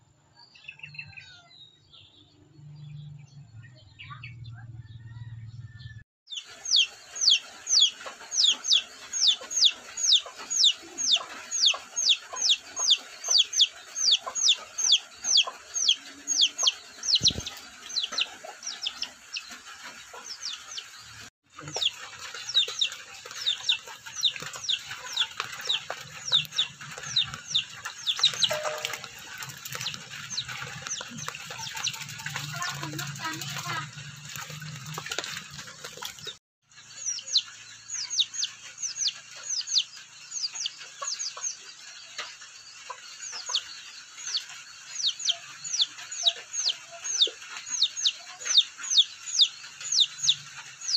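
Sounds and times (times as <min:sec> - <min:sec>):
chick peeping: 0:02.9 - 0:05.6, 0:06.3 - 0:50.9.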